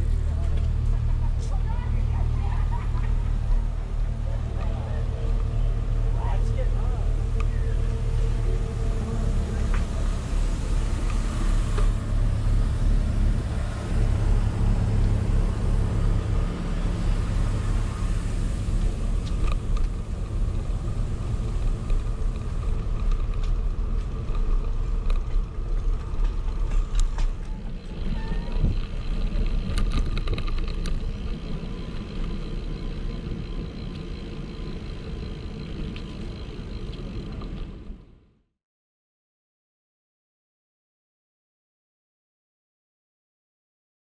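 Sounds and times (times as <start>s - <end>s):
engine rumbling steadily: 0.0s - 38.4s.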